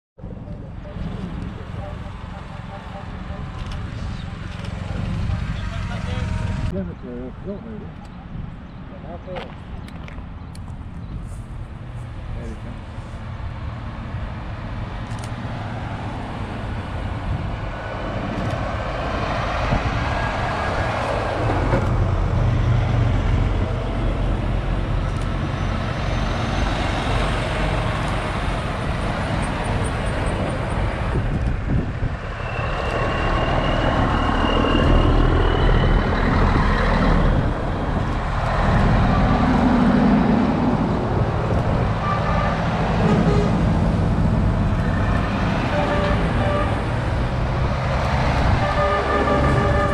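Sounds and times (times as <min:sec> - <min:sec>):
tyres on the road: 0:00.2 - 0:49.9
heavy lorries driving past: 0:00.6 - 0:06.8, 0:11.7 - 0:49.9.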